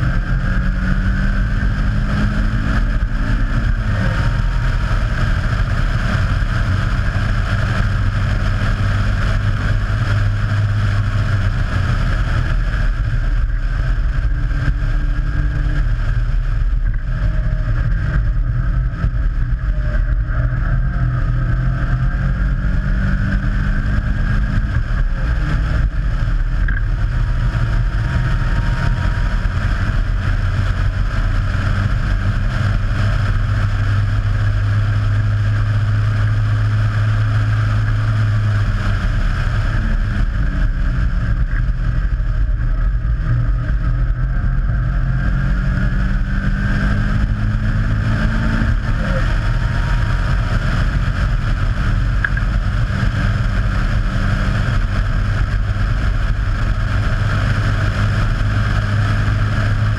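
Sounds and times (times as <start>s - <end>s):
race car engine droning: 0.0s - 59.9s.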